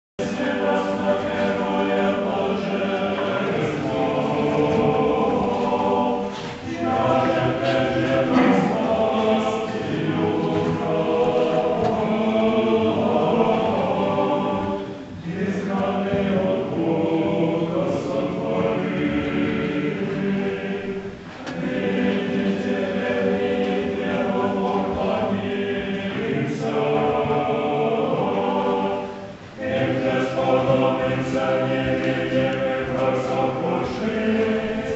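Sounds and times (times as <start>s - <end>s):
choir chanting unaccompanied: 0.2s - 34.9s.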